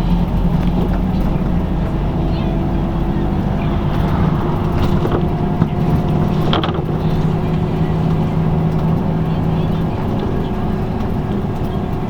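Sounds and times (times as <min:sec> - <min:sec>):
bus engine drone: 0:00.0 - 0:12.0
interior rattles: 0:00.0 - 0:12.0
road noise: 0:00.0 - 0:12.0
sharp clatter: 0:00.0 - 0:12.0.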